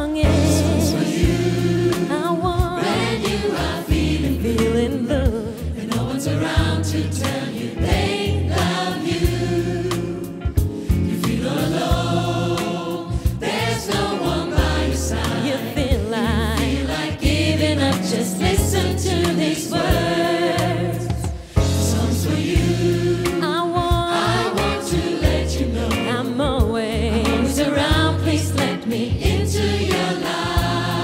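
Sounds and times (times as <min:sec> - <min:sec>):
drums: 0:00.0 - 0:31.0
gospel choir singing: 0:00.0 - 0:31.0
deep bass notes: 0:00.2 - 0:28.6, 0:30.5 - 0:31.0.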